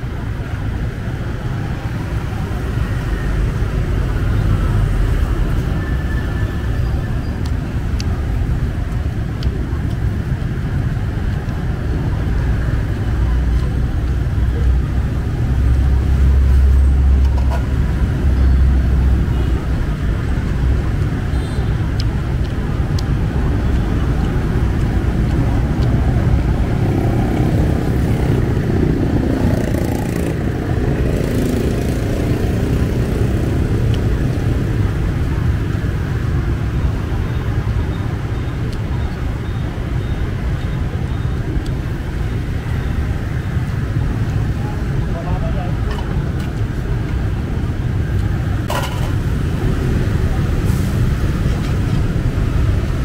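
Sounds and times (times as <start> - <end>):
heavy vehicle rumble: 0.0 - 53.0
road traffic passing: 0.0 - 53.0.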